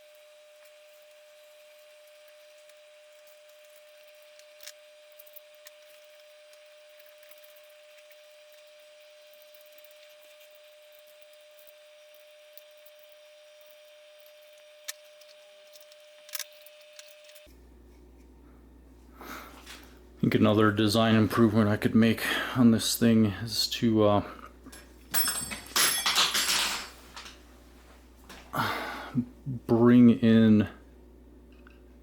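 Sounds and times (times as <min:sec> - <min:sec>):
faint hum with hiss: 0:00.0 - 0:32.0.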